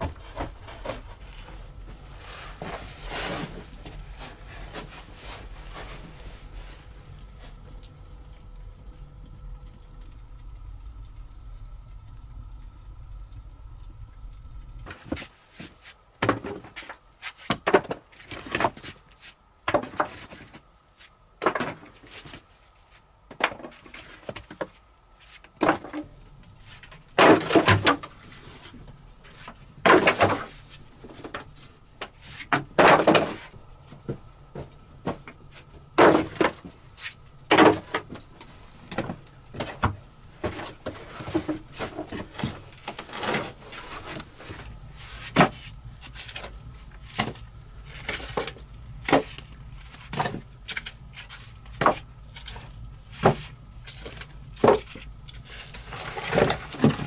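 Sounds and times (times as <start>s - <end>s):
firewood logs clattering: 0.0s - 7.6s, 14.8s - 19.0s, 19.6s - 20.7s, 21.4s - 22.5s, 23.3s - 57.0s.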